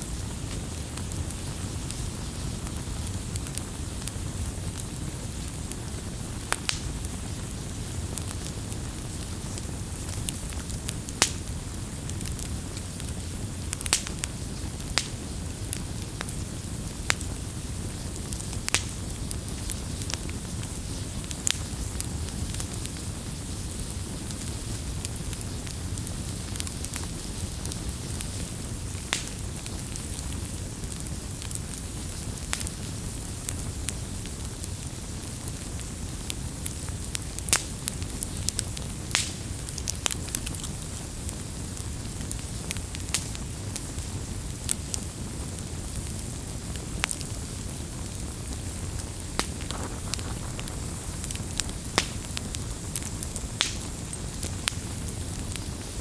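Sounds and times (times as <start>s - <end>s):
fire rumbling and hissing: 0.0s - 56.0s
wood crackling and popping: 0.0s - 56.0s.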